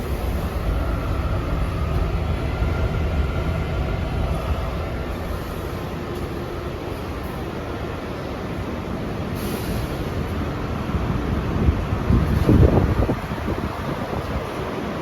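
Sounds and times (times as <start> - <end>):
subway car ventilation hum: 0.0 - 15.0.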